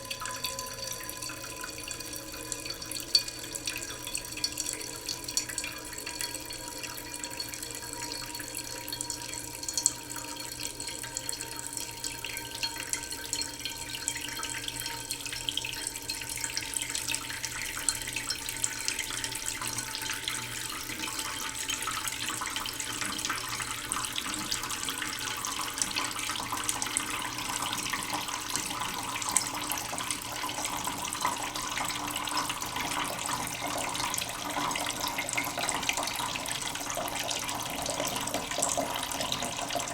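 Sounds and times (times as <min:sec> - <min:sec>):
tap water trickling into pot: 0:00.0 - 0:39.9.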